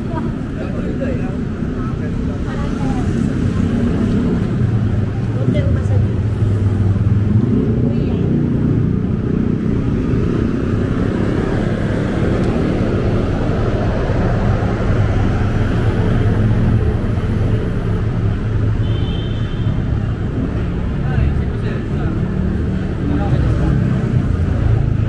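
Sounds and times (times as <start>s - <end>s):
traffic hum: 0.0s - 25.0s.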